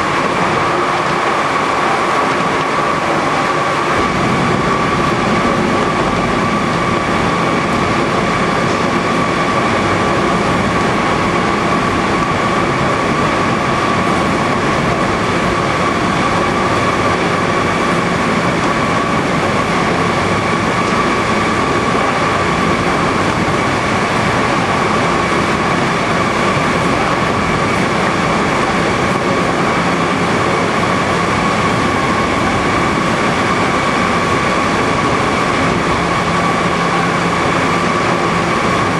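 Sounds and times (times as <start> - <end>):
conveyor machinery din: 0.0 - 38.9
high machine whine: 0.0 - 38.9.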